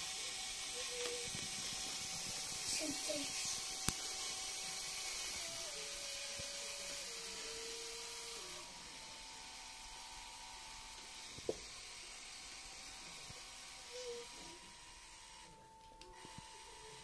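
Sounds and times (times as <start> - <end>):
small electric motor whine: 0.0 - 17.0.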